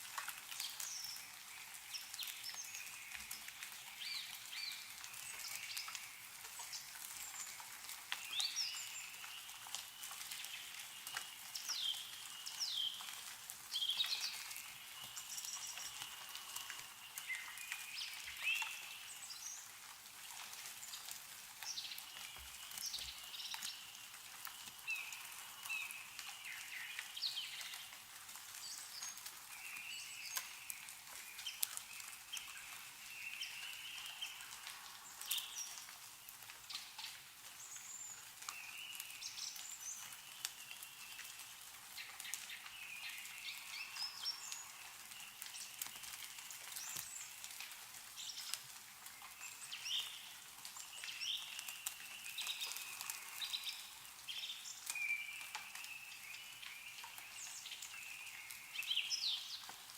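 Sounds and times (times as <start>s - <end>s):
meltwater dripping from trees: 0.0s - 59.9s
small birds chirping: 0.2s - 59.9s.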